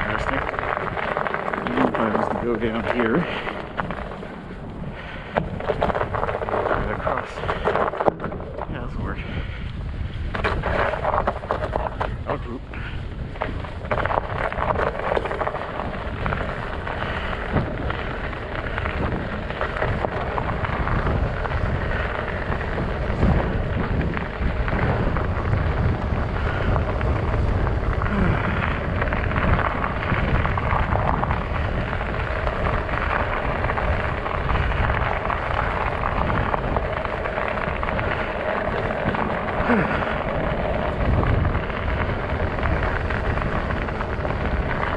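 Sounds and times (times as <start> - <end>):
heavy low rumble: 0.0 - 44.9
studded tires rolling over ice: 0.0 - 44.9.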